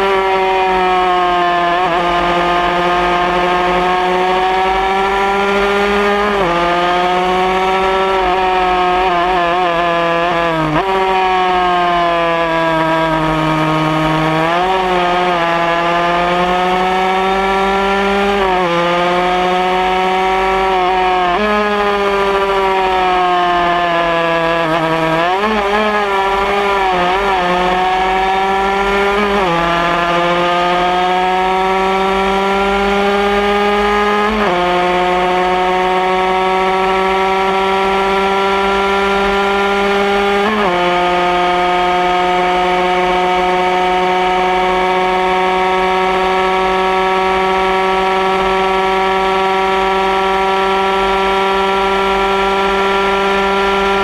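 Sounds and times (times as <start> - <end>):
two-stroke motorcycle engine accelerating: 0.0 - 54.0.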